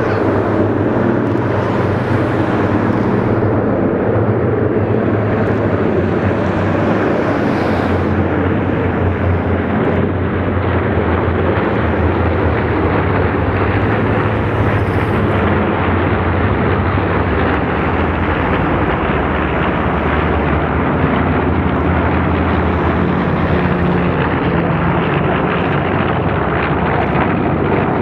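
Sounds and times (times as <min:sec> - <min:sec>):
propeller plane engines rumbling: 0:00.0 - 0:28.0.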